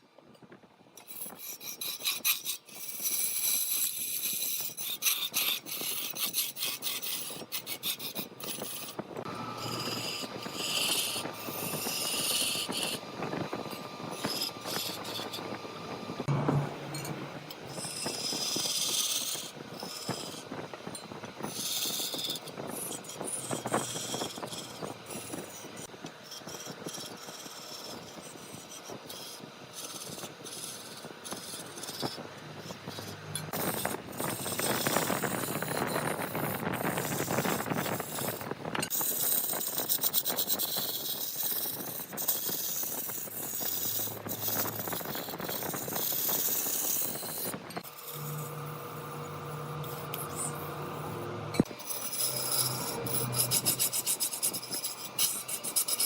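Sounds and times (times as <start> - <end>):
wood lathe tool scraping wood: 1.0 - 56.0.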